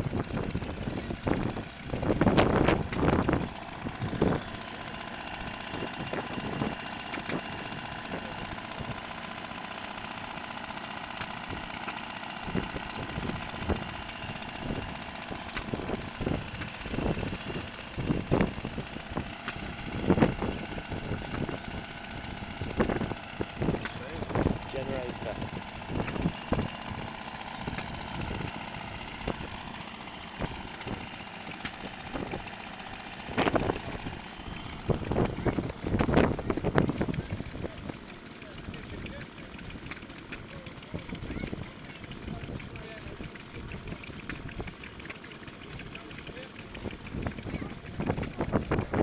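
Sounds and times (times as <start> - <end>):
stationary engine running: 0.0 - 49.0.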